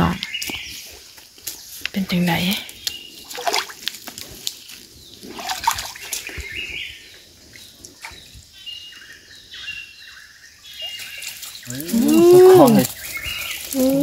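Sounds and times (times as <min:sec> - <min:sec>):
water trickling and splashing: 0:00.4 - 0:08.6, 0:10.6 - 0:14.0.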